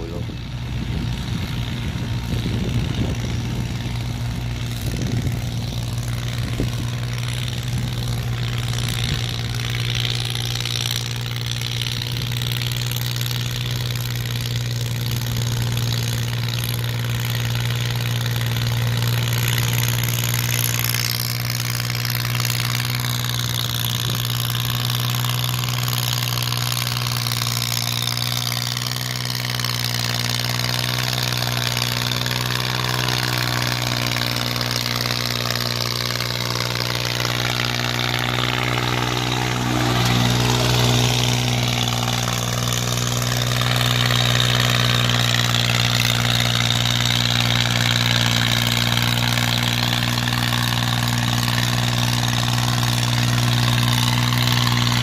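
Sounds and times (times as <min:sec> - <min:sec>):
engine running low hum: 0:00.0 - 0:55.0.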